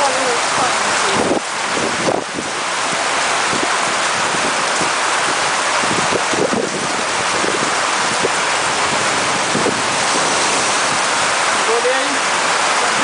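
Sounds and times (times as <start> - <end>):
heavy rain on pavement: 0.0 - 13.0
sea surf breaking: 0.0 - 13.0
wind buffeting microphone: 0.0 - 13.0.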